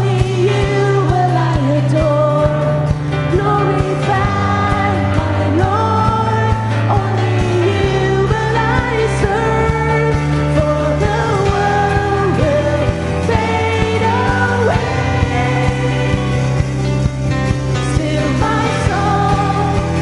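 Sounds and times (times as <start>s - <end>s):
worship song with band: 0.0s - 20.0s.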